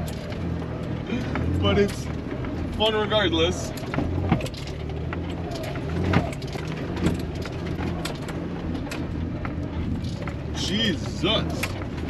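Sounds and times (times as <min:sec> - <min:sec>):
body and suspension rattling: 0:00.0 - 0:12.0
car engine running: 0:00.0 - 0:12.0.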